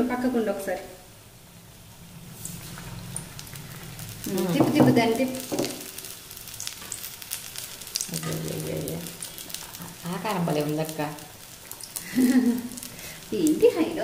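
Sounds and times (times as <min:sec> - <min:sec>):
deep-frying sizzle with pops: 0:00.0 - 0:14.0.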